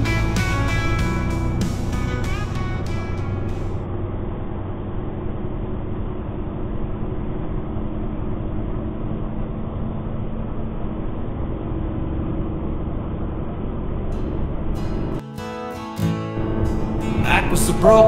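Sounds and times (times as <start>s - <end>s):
truck diesel engine droning: 0.0s - 15.2s, 16.2s - 18.0s.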